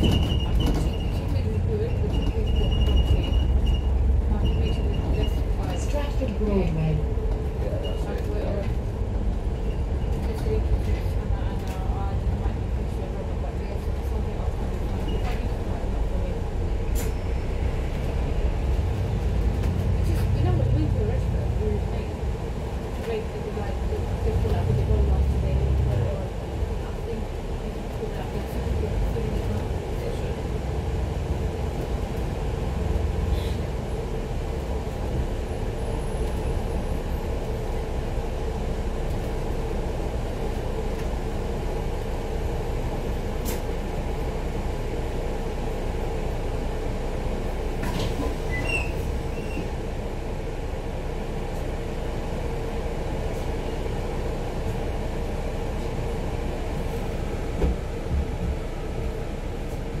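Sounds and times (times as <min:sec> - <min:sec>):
bus engine and road rumble: 0:00.0 - 1:00.0.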